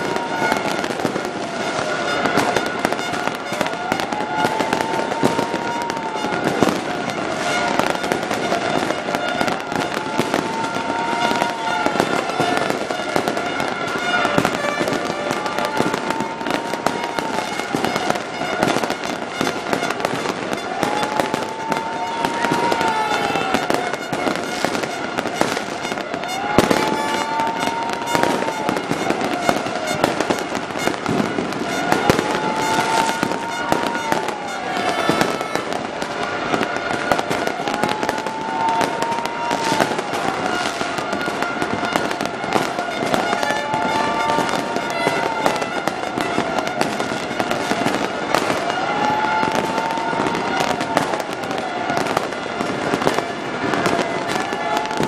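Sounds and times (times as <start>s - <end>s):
firecracker bangs: 0.0s - 55.0s
fireworks crackling and popping: 0.0s - 55.0s.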